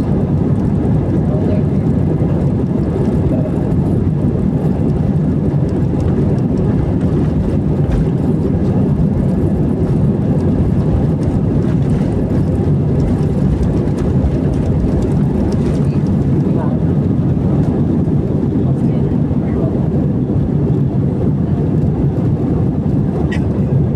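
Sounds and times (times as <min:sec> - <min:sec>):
jet engine rumble in cabin: 0:00.0 - 0:23.9.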